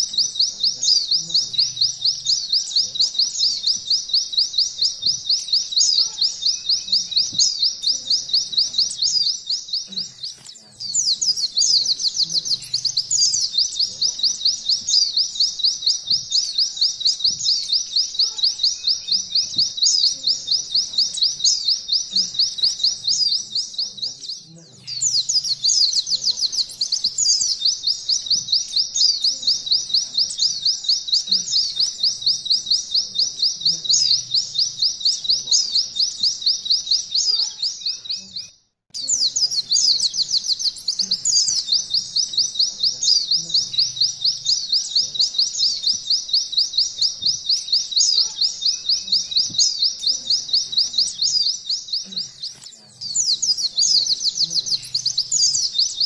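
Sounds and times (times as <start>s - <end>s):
bird singing high-pitched trill: 0.0s - 56.0s.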